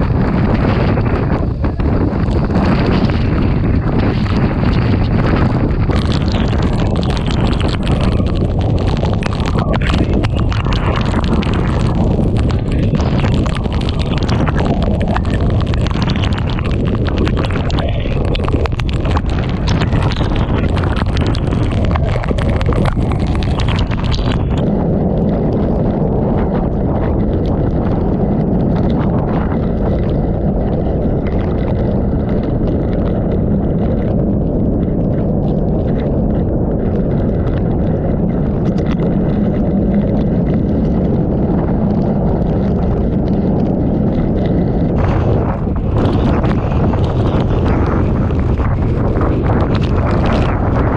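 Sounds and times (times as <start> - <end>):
wind and torrential rain: 0.0 - 50.9
wind buffeting microphone: 0.0 - 50.9.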